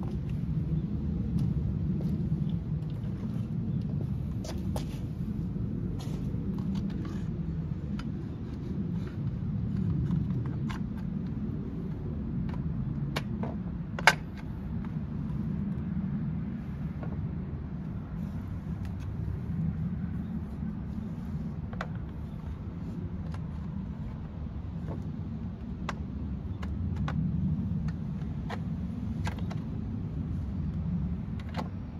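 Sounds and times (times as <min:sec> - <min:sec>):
steady low rumble: 0:00.0 - 0:31.9.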